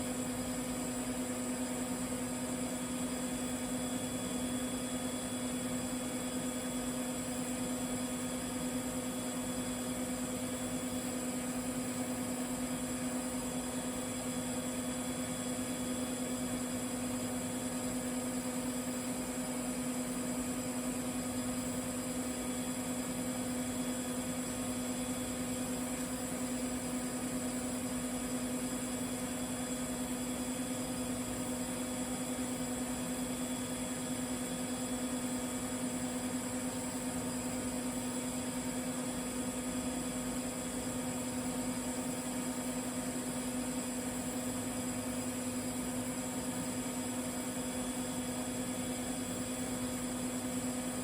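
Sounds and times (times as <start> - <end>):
welding hum and hiss: 0.0 - 51.0.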